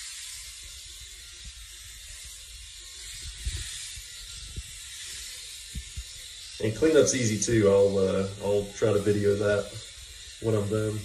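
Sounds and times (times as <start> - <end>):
electric shaver hissing: 0.0 - 11.0.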